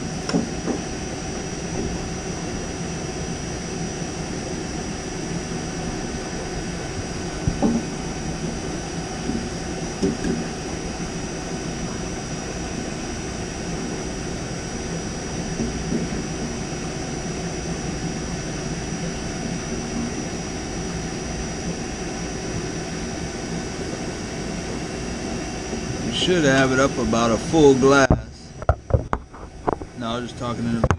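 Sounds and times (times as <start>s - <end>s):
machinery drone: 0.0s - 30.9s.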